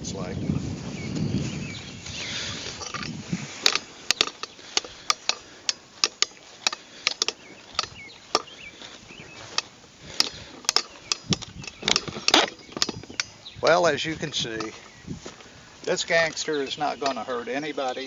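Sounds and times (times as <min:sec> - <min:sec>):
footsteps walking: 0:00.6 - 0:18.0.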